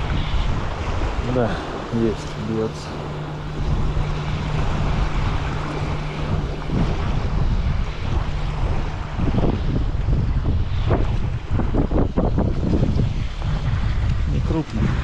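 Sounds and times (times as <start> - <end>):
steady low hum: 0.0 - 15.0
wind buffeting microphone: 0.0 - 15.0.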